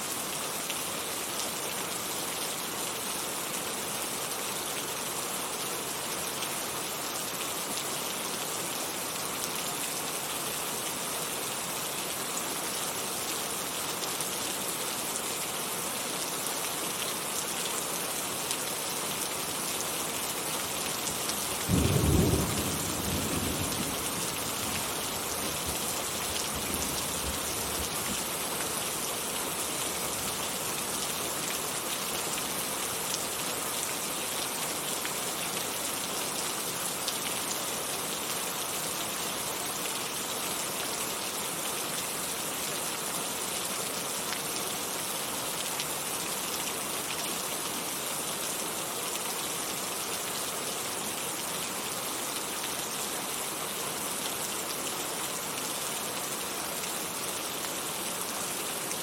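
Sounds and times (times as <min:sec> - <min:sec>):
heavy rain falling: 0:00.0 - 0:59.0
sharp rain patters: 0:00.0 - 0:59.0.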